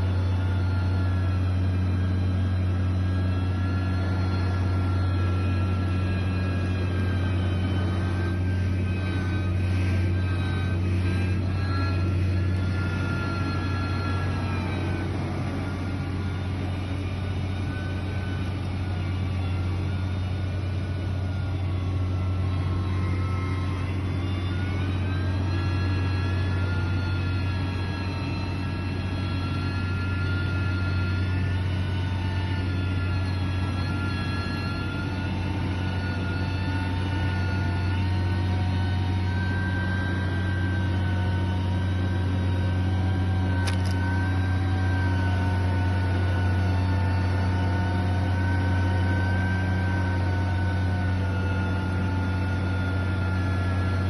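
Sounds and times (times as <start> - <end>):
engine whine: 0.0 - 54.0
heavy machine engine running: 0.0 - 54.0.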